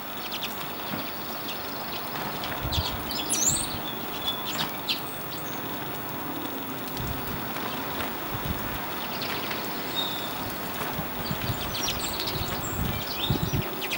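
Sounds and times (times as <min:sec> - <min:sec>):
outdoor hiss: 0:00.0 - 0:13.9.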